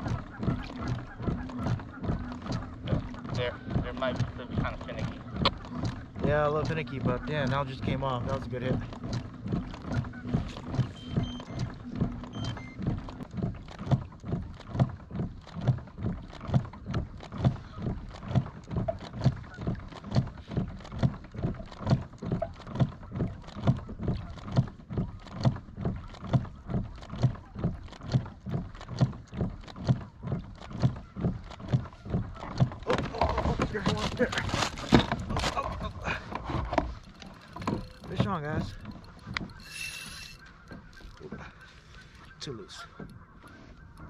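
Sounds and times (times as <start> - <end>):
low motor hum: 0.0 - 44.0
water slapping boat hull: 0.0 - 44.0.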